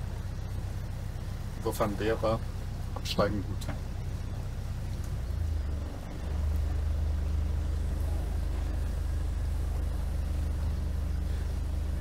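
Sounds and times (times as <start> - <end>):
motorboat engine low drone: 0.0 - 12.0.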